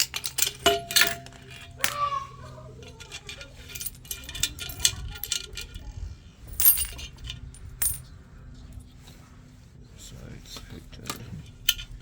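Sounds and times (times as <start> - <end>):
metal clinks and knocks: 0.0 - 8.9, 11.0 - 12.0.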